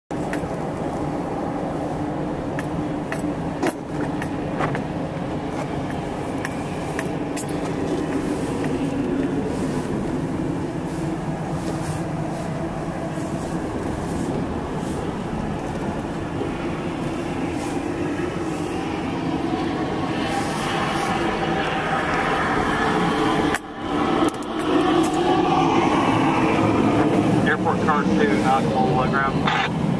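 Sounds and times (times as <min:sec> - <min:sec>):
vehicle rumble inside cab: 0:00.1 - 0:29.9.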